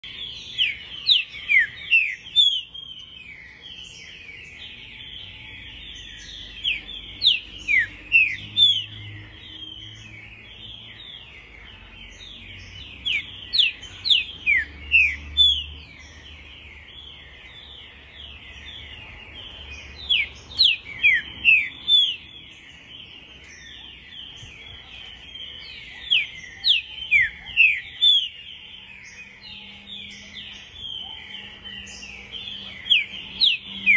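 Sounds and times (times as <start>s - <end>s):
bird whistling song: 0.0s - 33.9s
birds twittering: 0.0s - 33.9s.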